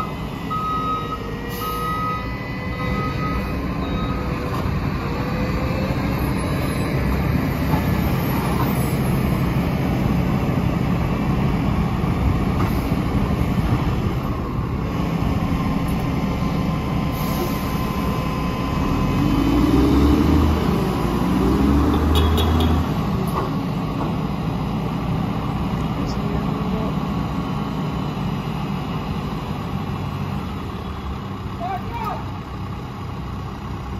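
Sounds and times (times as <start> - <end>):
garbage truck diesel engine: 0.0 - 33.9.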